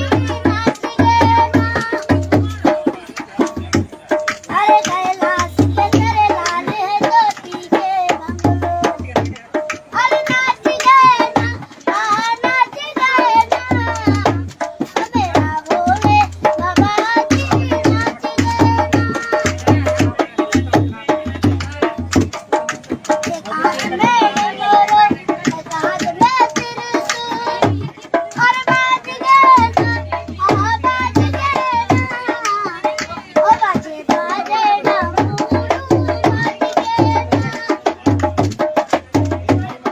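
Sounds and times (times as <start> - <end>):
boy singing: 0.0 - 39.9
drum beat: 0.0 - 39.9.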